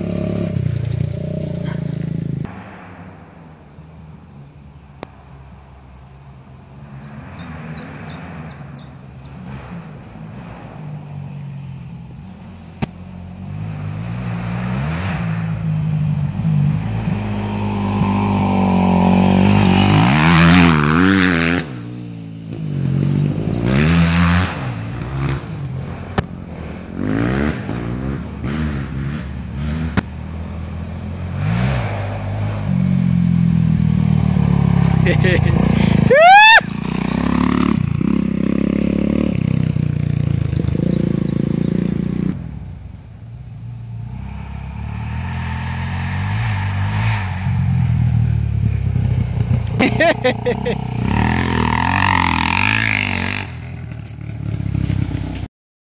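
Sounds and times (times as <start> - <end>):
dirt bike engines revving: 0.0 - 2.7, 3.6 - 55.5.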